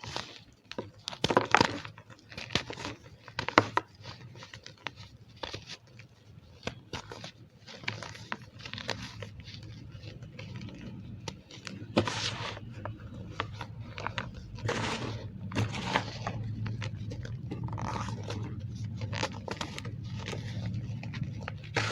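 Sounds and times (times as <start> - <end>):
chalk squeaking and crunching: 4.2 - 21.9.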